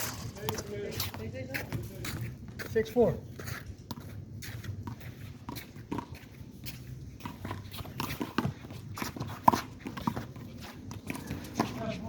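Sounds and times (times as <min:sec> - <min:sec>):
footsteps scuffing: 0:00.0 - 0:12.0.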